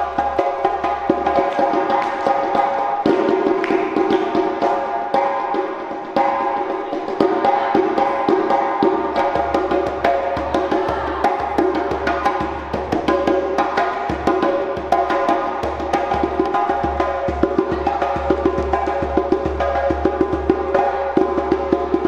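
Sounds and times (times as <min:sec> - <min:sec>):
djembe played by hand: 0:00.0 - 0:22.0.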